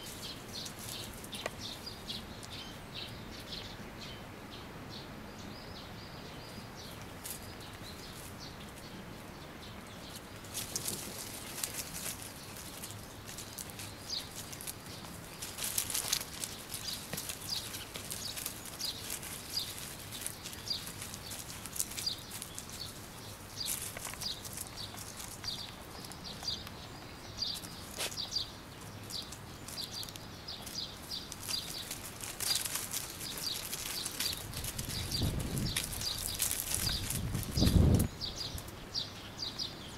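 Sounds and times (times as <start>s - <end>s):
dogs scuffling on gravel and leaves: 0.0s - 3.6s, 6.8s - 38.7s
bird chirping: 0.0s - 39.9s.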